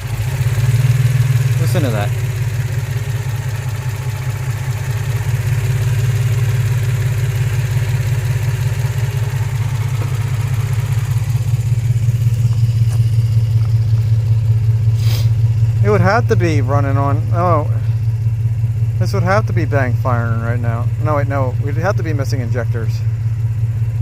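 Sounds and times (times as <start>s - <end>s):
car engine idling roughly: 0.0s - 24.0s.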